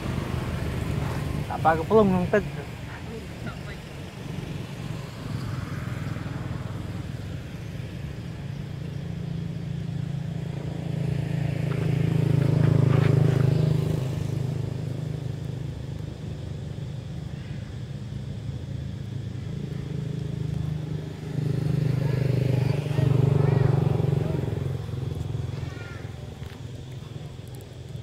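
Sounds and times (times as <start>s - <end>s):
vehicle engine passing by: 0.0s - 16.4s, 18.8s - 27.6s.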